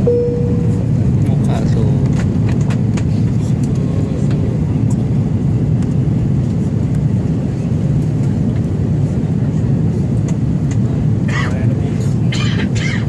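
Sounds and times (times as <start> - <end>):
airliner cabin engine noise: 0.0 - 13.0.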